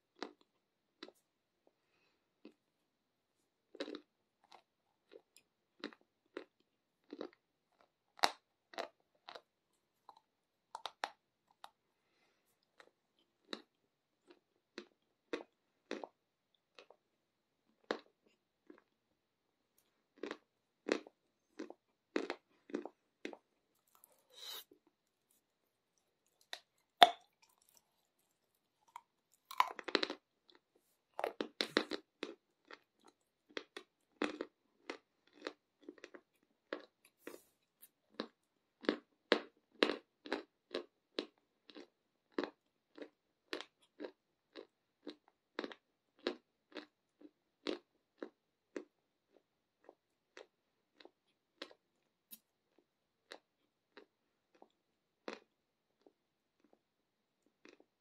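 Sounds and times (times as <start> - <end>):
crunchy food chewing: 3.7 - 11.8, 12.6 - 17.1, 19.8 - 56.8, 57.4 - 58.0.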